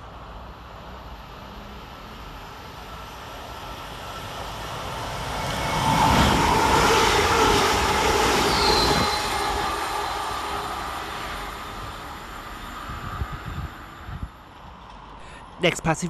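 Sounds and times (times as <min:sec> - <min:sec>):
train wheels rushing on rail: 0:00.0 - 0:16.0.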